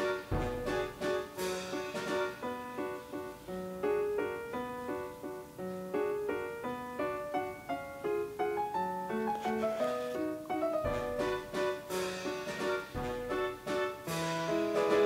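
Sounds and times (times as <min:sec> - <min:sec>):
light piano tune: 0:00.0 - 0:15.0.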